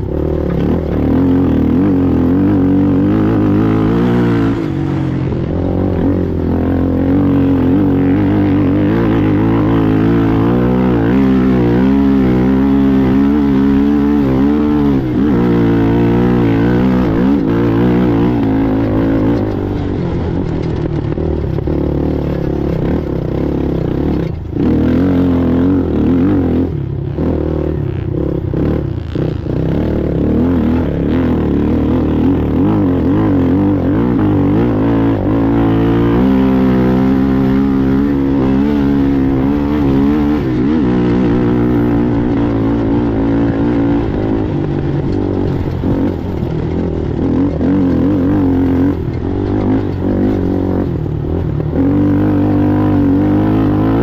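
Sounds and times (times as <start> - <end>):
engine revving under throttle: 0.0 - 54.0.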